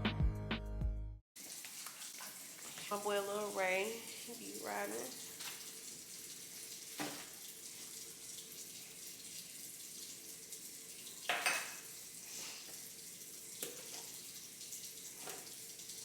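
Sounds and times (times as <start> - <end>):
running water hiss: 1.4 - 16.0.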